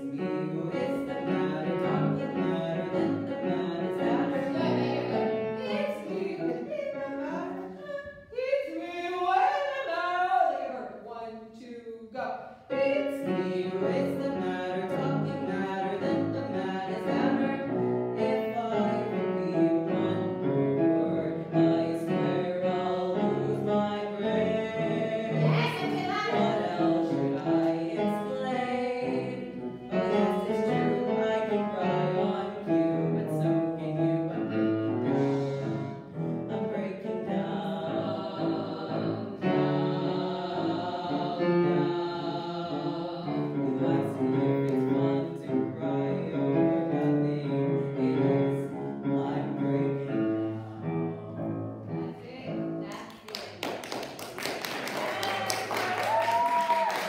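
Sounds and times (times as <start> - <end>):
grand piano accompaniment: 0.0 - 8.3, 12.7 - 56.3
person singing: 0.0 - 52.1.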